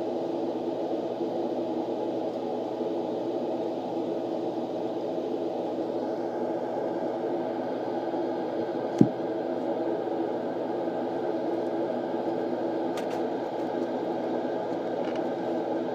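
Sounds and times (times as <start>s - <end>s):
whirring hum: 0.0s - 15.9s.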